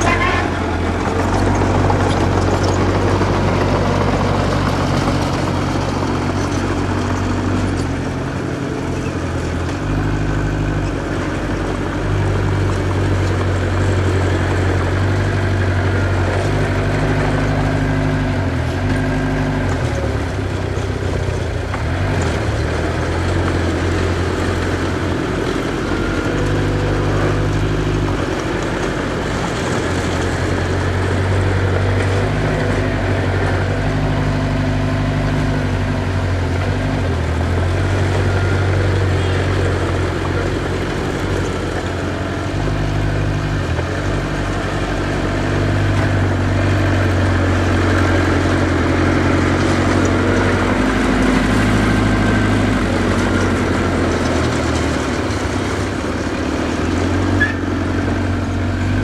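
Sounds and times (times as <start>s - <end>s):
diesel engine of earthmoving machine: 0.0s - 59.0s.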